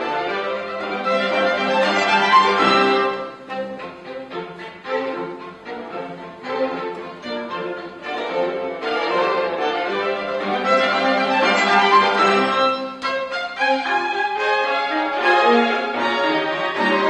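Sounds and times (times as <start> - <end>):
cello: 0.0 - 17.0
violin: 0.0 - 17.0.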